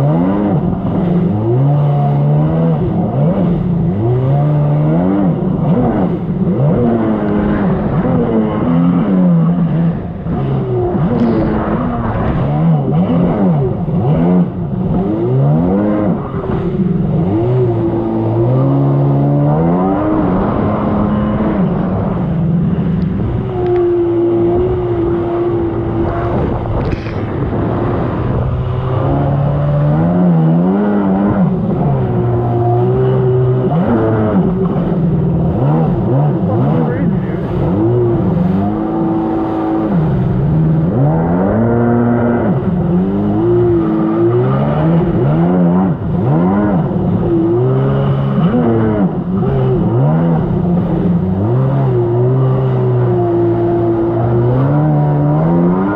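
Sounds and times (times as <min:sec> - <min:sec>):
personal watercraft engine: 0:00.0 - 0:55.9.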